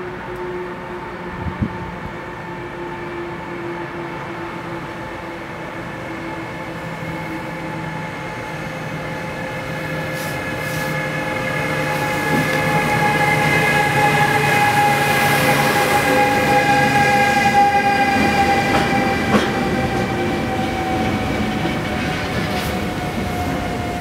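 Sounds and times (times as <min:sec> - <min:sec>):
electric locomotive whine: 0:00.0 - 0:24.0
freight train running noise: 0:00.0 - 0:24.0.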